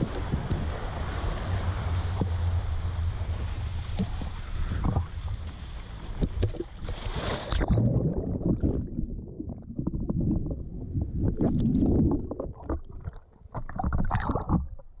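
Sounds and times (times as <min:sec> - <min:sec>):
underwater rumbling and gurgling: 0:00.0 - 0:15.0
water splashing: 0:00.0 - 0:15.0.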